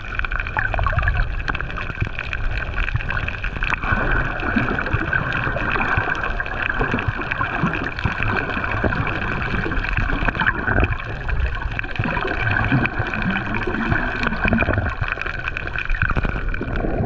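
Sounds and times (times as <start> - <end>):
crackle of small clicks: 0.0 - 17.0
water sloshing over microphone: 0.0 - 17.0.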